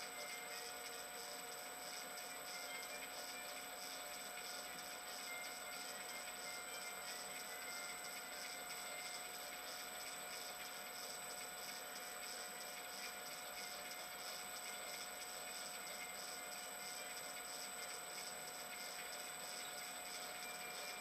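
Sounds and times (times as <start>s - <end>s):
faint high whine: 0.0s - 21.0s.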